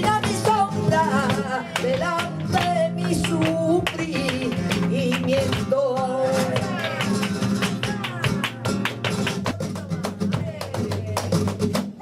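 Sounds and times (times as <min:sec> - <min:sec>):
flamenco guitar playing: 0:00.0 - 0:12.0.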